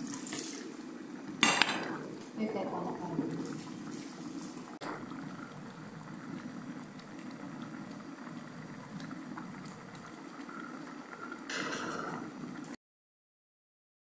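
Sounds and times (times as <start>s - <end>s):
pot boiling and bubbling: 0.0s - 12.8s.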